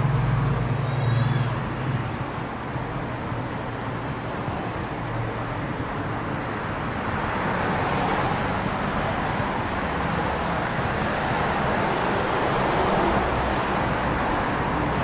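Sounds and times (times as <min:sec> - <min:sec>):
cars passing: 0:00.0 - 0:15.0.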